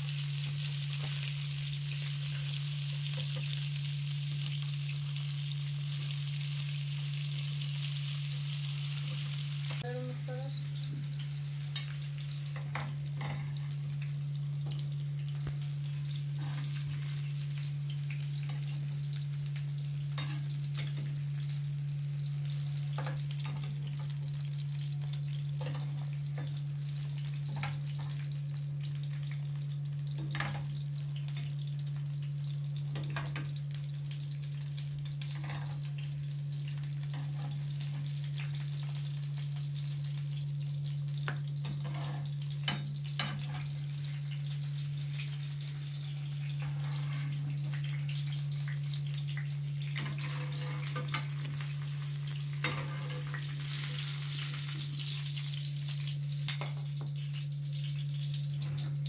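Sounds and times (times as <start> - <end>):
onions sizzling in pan: 0.0 - 59.0.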